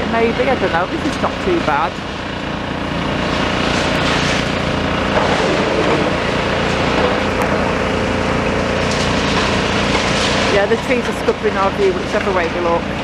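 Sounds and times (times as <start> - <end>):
heavy engines running: 0.0 - 13.0.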